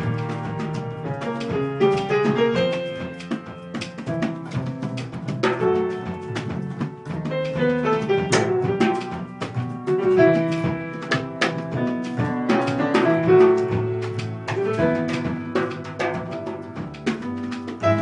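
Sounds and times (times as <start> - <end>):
jazz piano: 0.0 - 18.0.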